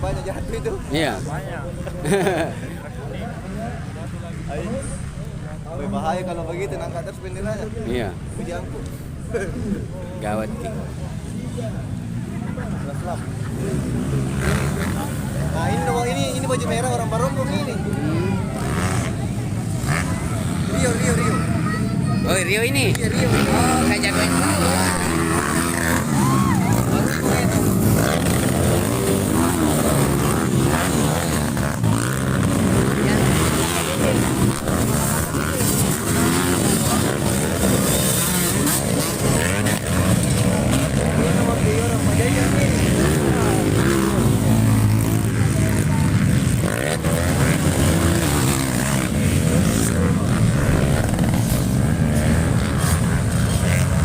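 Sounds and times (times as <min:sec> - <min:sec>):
motorcycles revving: 0:00.0 - 0:54.0
voices: 0:00.0 - 0:54.0.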